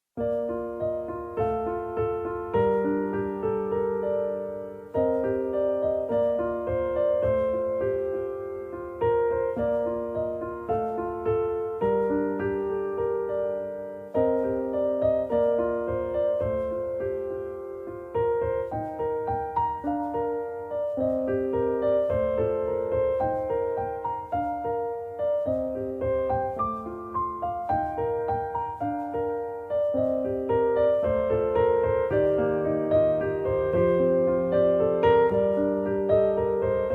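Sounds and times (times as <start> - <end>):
soft piano music: 0.0 - 36.9.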